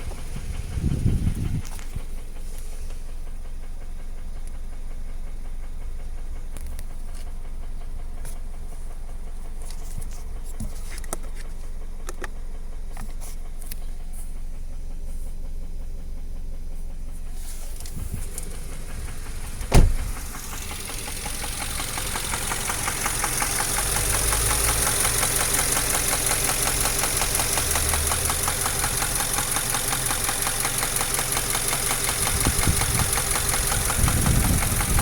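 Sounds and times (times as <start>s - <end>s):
car engine knocking: 0.0s - 35.0s.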